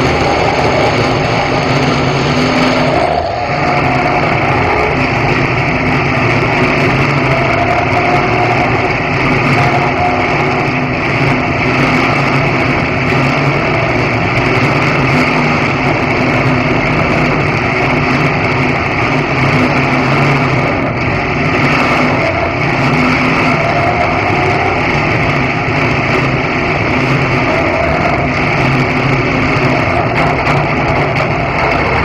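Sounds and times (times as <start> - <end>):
car engine running at low revs: 0.0 - 32.0.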